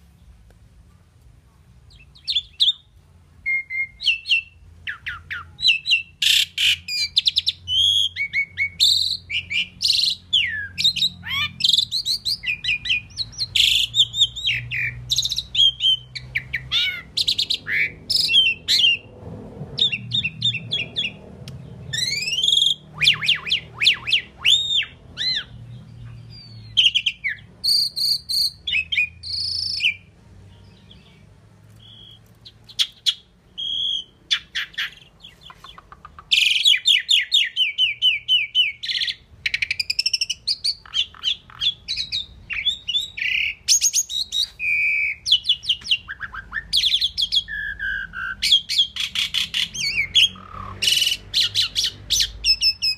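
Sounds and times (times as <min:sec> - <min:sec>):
bird singing whistles and clicks: 0:03.5 - 0:19.0, 0:19.8 - 0:25.5, 0:31.7 - 0:52.9.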